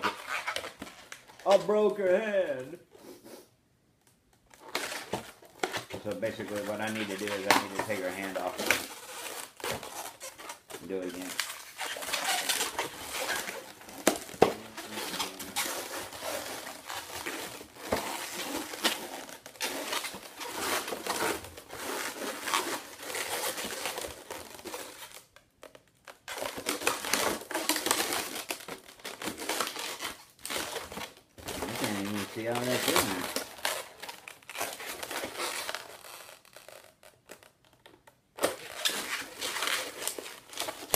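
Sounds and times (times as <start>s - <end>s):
balloons rubbing and squeaking: 0.0s - 3.4s, 4.5s - 25.2s, 26.0s - 40.9s.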